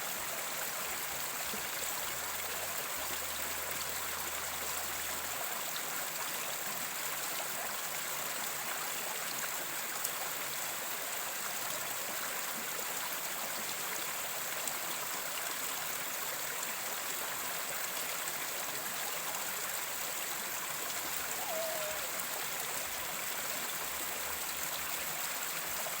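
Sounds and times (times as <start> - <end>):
stream flowing over rocks: 0.0 - 26.0.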